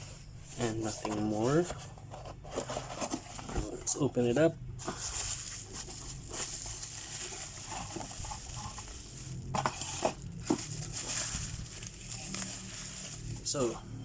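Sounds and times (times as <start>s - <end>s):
packaging rustling and crinkling: 0.4s - 14.0s.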